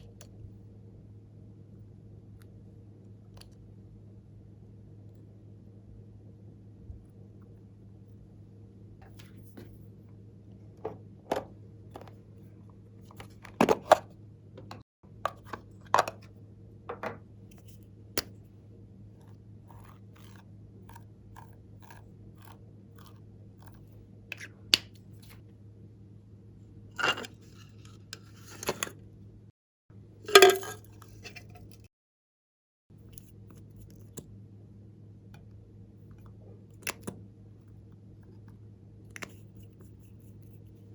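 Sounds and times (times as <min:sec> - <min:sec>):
faint steady hum: 0:00.0 - 0:31.9, 0:32.9 - 0:40.9.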